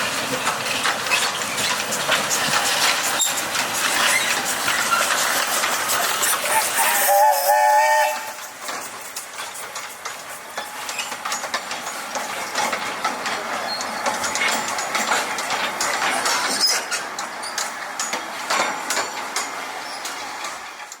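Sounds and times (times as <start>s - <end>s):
steam train running: 0.0s - 21.0s
wheels clicking and clanking: 0.0s - 21.0s.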